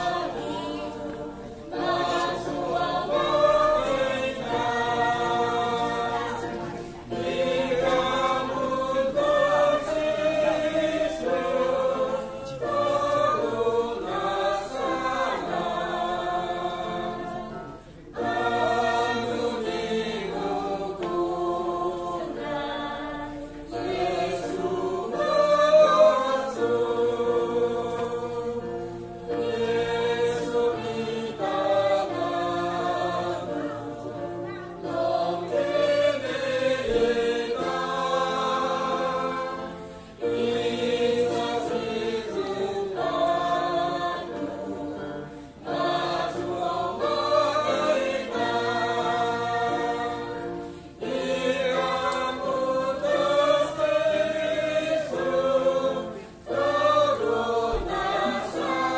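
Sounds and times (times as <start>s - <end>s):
choir singing a hymn: 0.0s - 58.9s.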